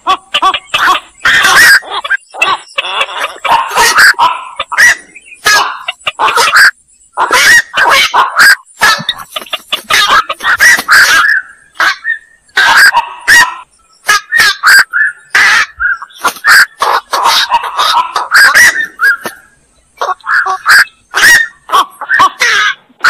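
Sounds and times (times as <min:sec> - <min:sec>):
herons calling: 0:00.0 - 0:23.0.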